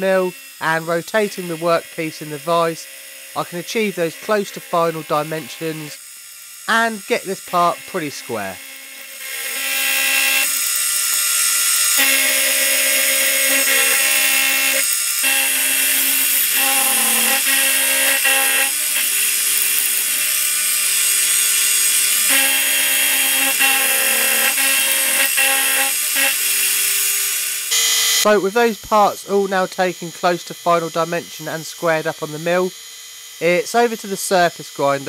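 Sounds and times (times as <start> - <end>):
milling machine cutting steel: 0.0 - 35.0.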